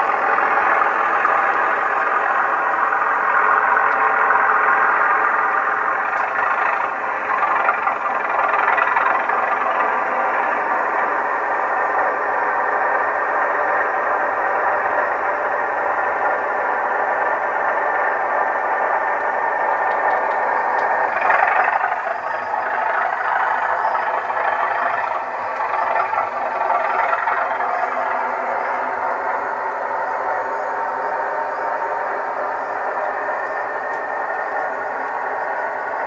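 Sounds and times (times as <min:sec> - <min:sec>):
diesel engine running from speaker: 0:00.0 - 0:36.0.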